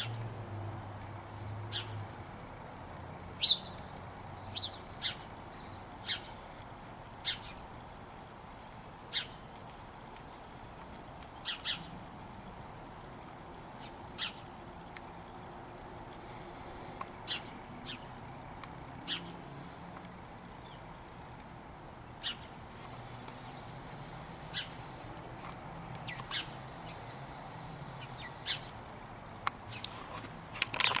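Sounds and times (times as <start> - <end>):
small birds chirping: 1.4 - 2.0, 3.4 - 28.9, 29.5 - 30.0.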